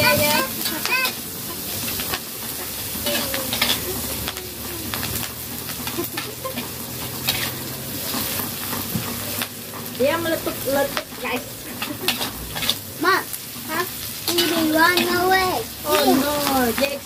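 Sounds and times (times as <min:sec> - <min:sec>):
metal ladle scraping wok: 0:00.0 - 0:04.3, 0:04.9 - 0:12.9, 0:13.5 - 0:15.2
food sizzling in hot oil: 0:00.0 - 0:17.0.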